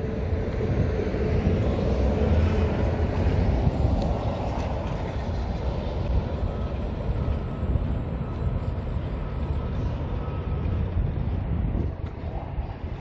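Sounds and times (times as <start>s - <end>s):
rumble of passing traffic: 0.0s - 13.0s.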